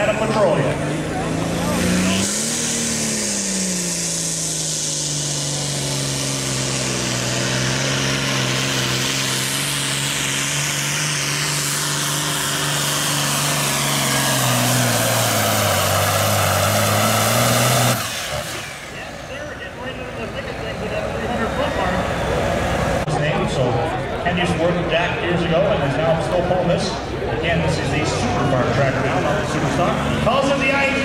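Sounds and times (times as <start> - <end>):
tractor diesel engine at full power: 0.0 - 31.0.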